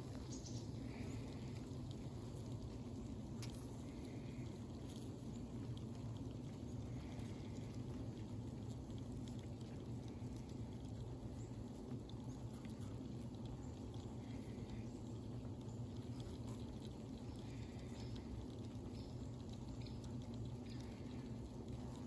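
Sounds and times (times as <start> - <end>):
honeybees humming: 0.0 - 22.0.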